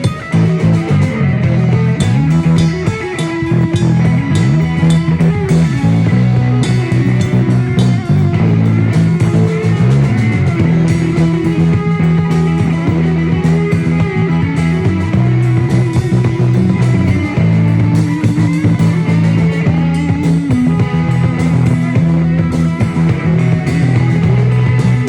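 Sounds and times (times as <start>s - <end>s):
bass guitar: 0.0s - 25.0s
drum kit and cymbals: 0.0s - 25.0s
electric guitar: 0.0s - 25.0s.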